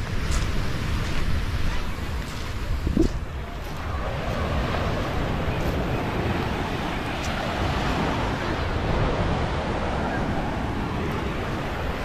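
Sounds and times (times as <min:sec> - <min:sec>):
waves rushing on beach: 0:00.0 - 0:12.0
wind rumbling on microphone: 0:00.0 - 0:12.0.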